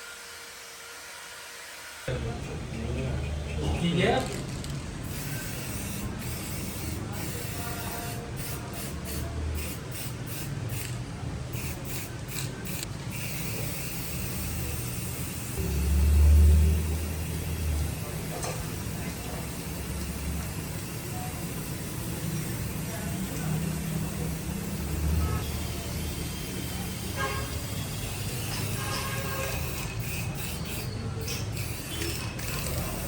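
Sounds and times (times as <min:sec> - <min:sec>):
compressed air hiss: 0:05.0 - 0:10.9, 0:11.5 - 0:33.0.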